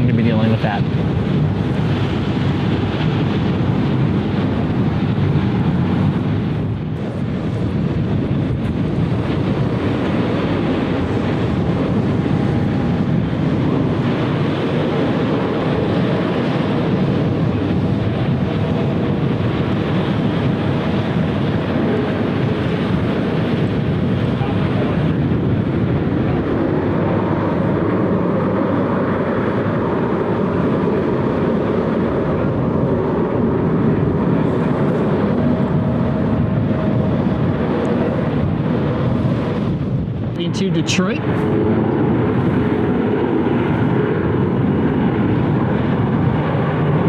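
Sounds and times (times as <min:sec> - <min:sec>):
jet engines roaring: 0:00.0 - 0:47.0.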